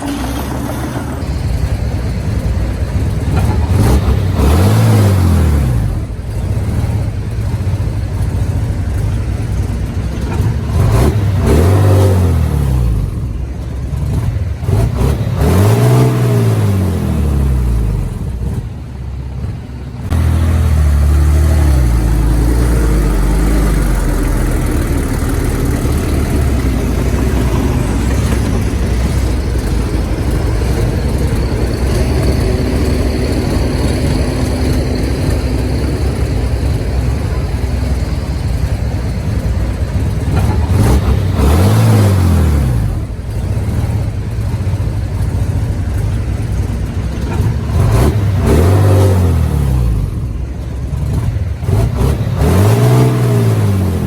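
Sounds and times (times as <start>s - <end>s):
heavy diesel engine revving: 0.0s - 54.0s.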